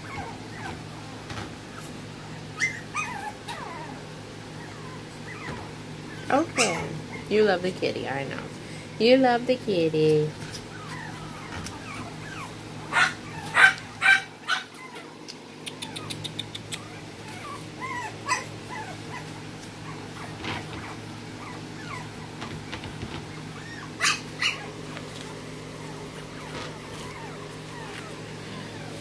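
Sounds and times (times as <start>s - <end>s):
puppy yipping: 0.0s - 0.8s, 1.7s - 4.0s, 4.6s - 7.3s, 10.6s - 28.9s
puppy whimpering: 0.0s - 7.6s, 10.4s - 29.0s.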